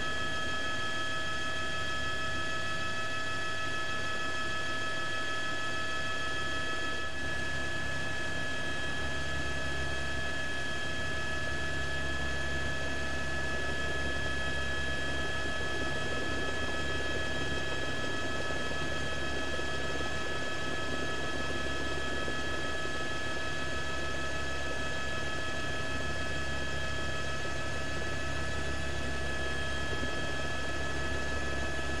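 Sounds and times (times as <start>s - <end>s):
helicopter engine and rotor rumble: 0.0s - 32.0s.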